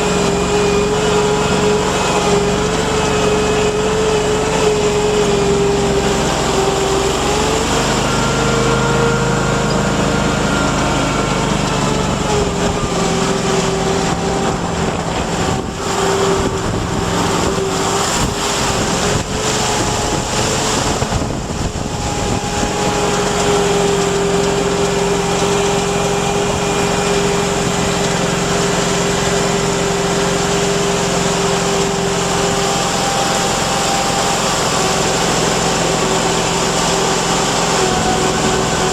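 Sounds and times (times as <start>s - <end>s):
tracked vehicle engine running: 0.0s - 38.9s.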